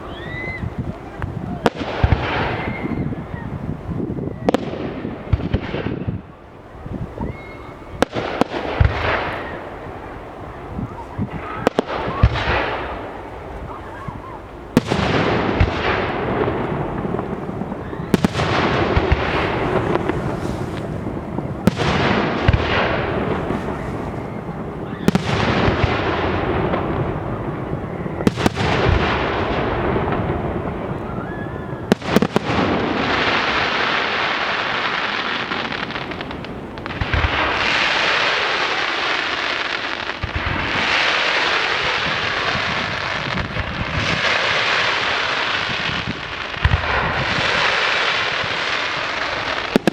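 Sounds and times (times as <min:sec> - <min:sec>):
fireworks bursting with bangs: 0:00.0 - 0:49.9
loud fireworks booms: 0:00.0 - 0:49.9.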